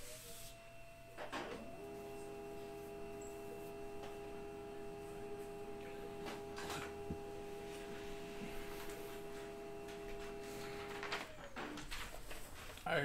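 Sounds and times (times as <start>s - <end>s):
printer humming: 0.0s - 13.0s.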